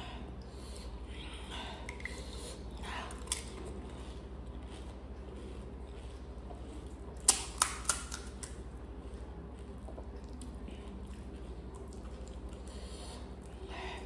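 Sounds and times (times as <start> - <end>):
low steady hum: 0.0 - 14.0
chewing crisp food: 0.3 - 14.0
crunching and wet mouth sounds: 0.3 - 14.0.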